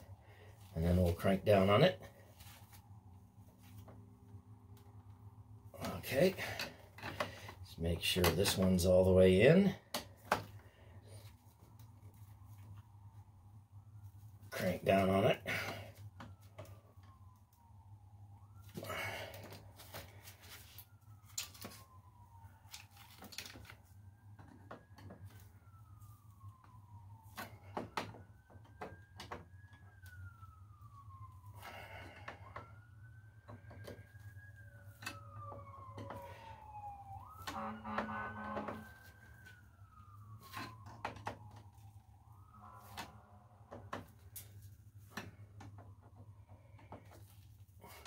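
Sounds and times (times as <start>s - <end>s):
police siren wailing: 0.0s - 48.0s.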